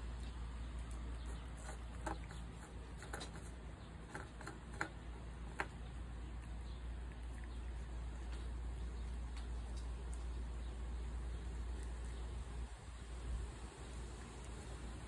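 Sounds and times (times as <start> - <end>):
cat crunching dry kibble: 0.0 - 15.0
steady low hum: 0.0 - 15.0.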